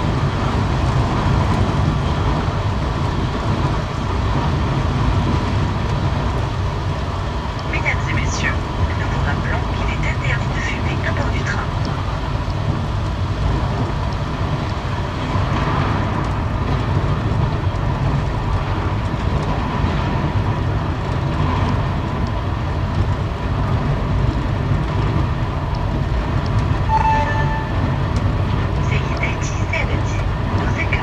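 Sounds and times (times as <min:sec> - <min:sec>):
train wheels rumbling on track: 0:00.0 - 0:31.0.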